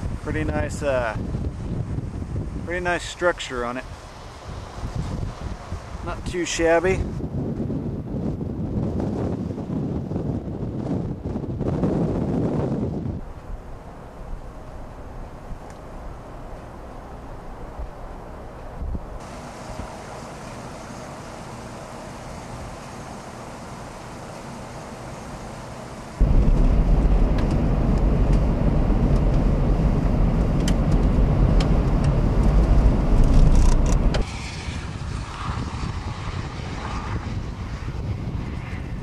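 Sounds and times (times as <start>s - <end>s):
wind rumbling on microphone: 0.0s - 39.0s.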